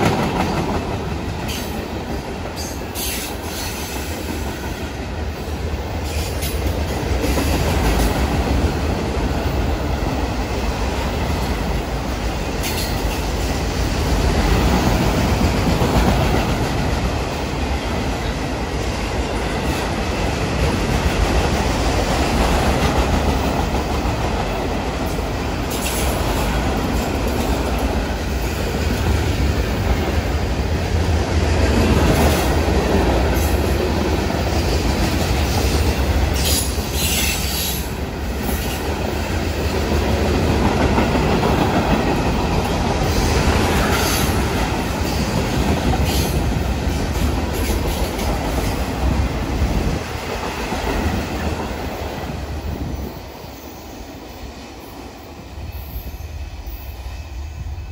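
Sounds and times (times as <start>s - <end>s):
freight train wheels clattering: 0.0s - 52.9s.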